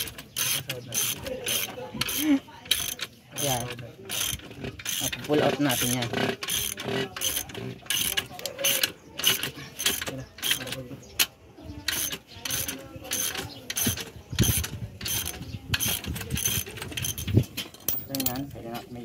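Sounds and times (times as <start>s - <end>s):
ratchet wrench clicking: 0.0s - 18.4s.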